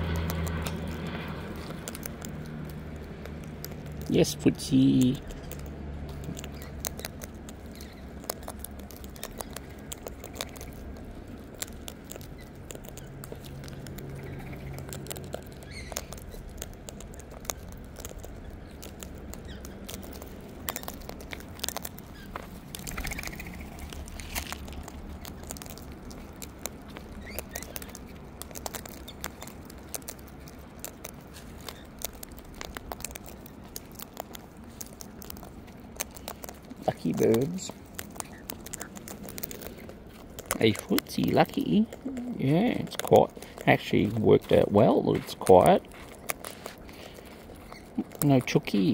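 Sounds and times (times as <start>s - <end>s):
birds cracking seeds: 0.0s - 48.9s.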